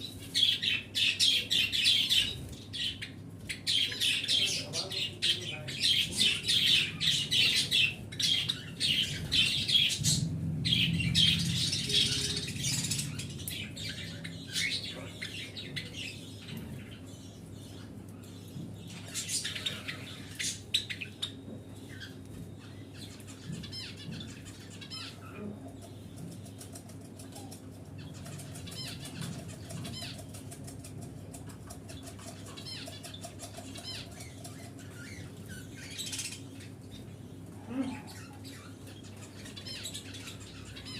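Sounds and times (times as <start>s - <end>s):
small birds chirping and squawking: 0.0s - 40.9s.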